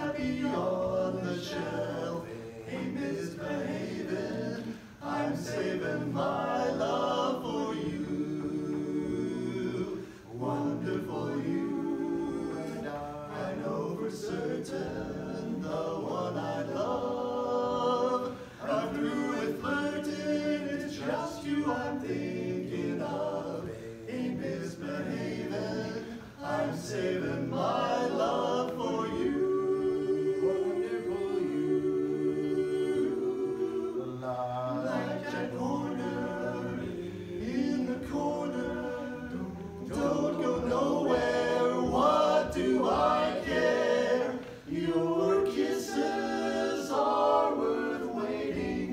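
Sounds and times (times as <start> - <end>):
men singing a cappella harmony: 0.0 - 48.9.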